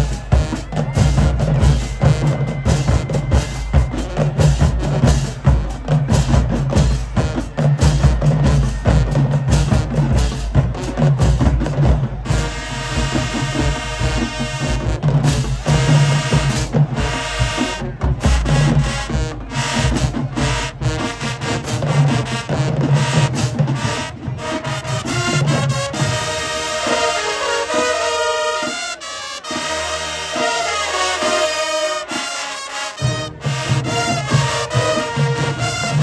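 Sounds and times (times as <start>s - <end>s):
brass melody: 0.0s - 36.0s
school band playing: 0.0s - 36.0s.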